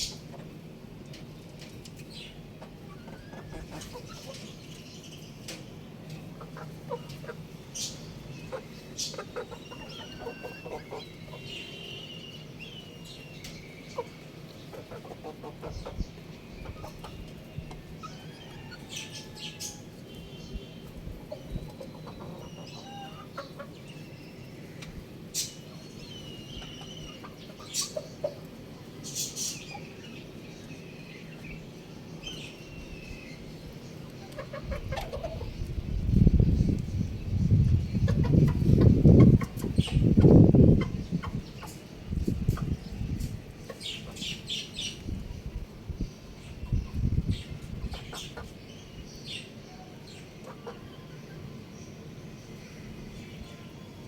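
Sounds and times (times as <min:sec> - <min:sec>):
young rooster chirping and clucking: 0:00.0 - 0:11.7, 0:12.3 - 0:53.7.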